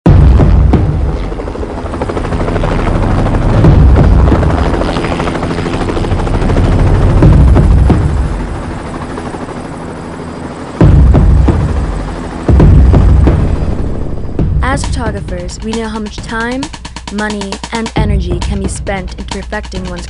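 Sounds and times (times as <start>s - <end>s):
helicopter rotor chop: 0.1s - 20.0s.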